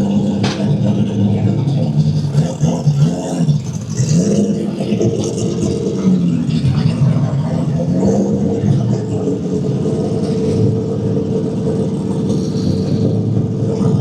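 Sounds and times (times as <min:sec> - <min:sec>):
loud car engine running: 0:00.0 - 0:14.0.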